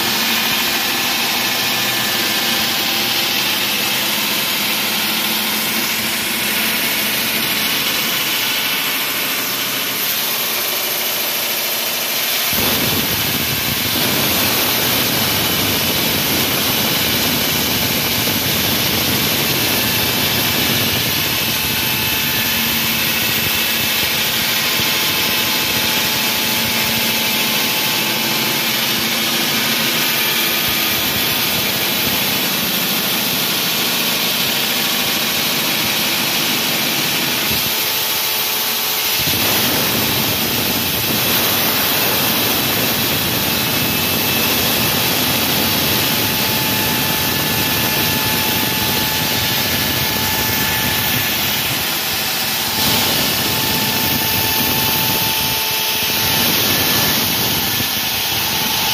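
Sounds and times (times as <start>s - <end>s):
concrete wall saw whining and grinding: 0.0s - 58.9s.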